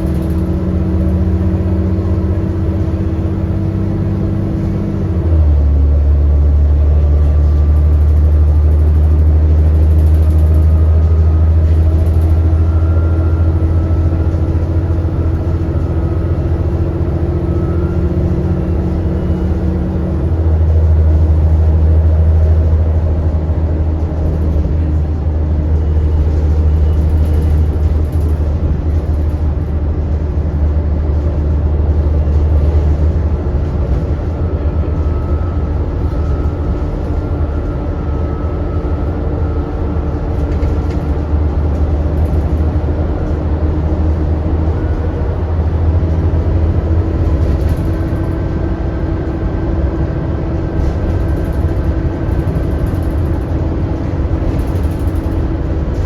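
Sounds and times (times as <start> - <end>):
bus engine rumble with whine: 0.0 - 56.0.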